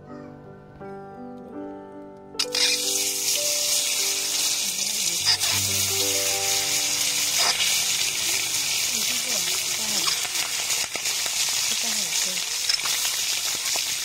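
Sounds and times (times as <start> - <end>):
eggs sizzling in hot oil: 2.4 - 14.0.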